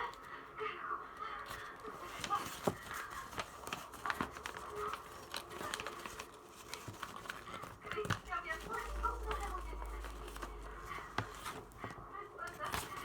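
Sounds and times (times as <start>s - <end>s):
paper rustling and crackling: 1.4s - 13.0s.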